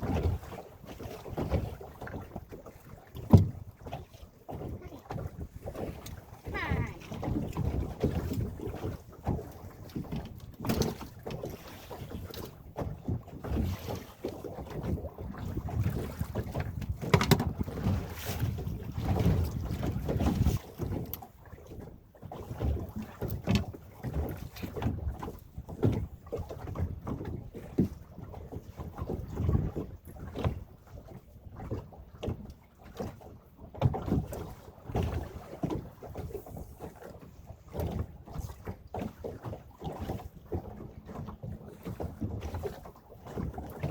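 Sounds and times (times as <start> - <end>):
water slapping boat hull: 0.0 - 43.9.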